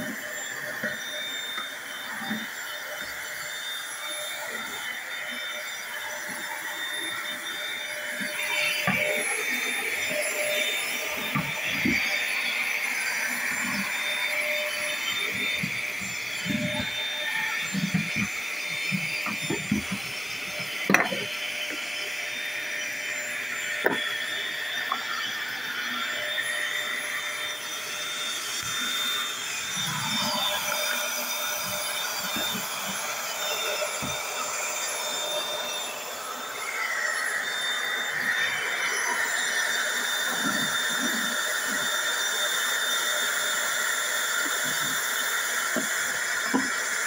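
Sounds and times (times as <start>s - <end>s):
vacuum cleaner running: 0.0s - 47.0s.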